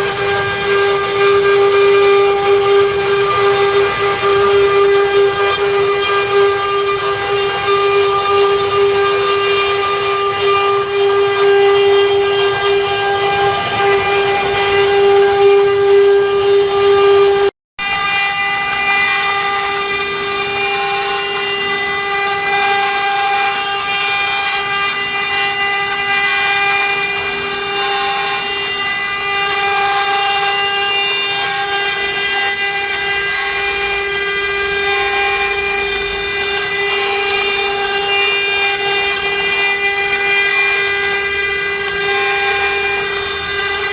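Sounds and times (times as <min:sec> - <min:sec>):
router spindle whining carving wood: 0:00.0 - 0:43.9.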